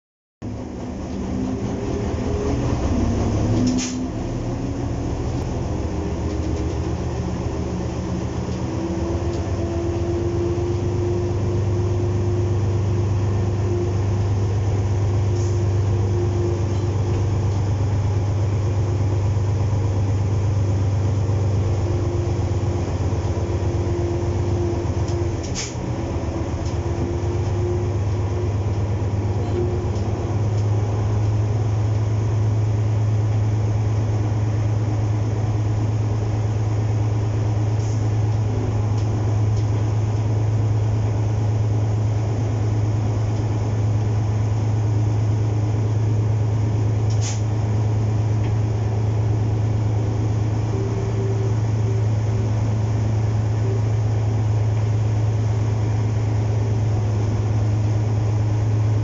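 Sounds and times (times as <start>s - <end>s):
locomotive engine droning: 0.4s - 59.0s.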